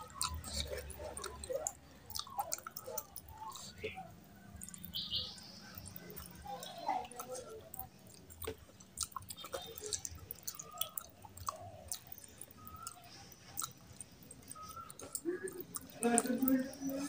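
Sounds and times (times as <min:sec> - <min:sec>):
fingers squishing rice in curry: 0:00.0 - 0:17.0
person chewing and lip smacking: 0:00.0 - 0:17.0.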